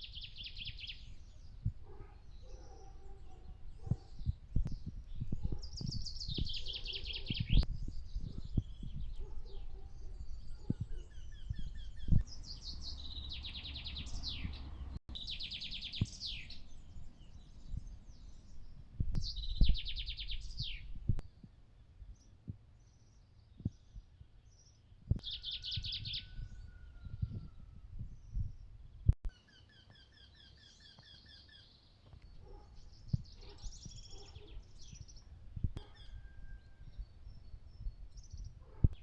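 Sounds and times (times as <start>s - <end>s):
songbirds singing: 0.0s - 39.0s.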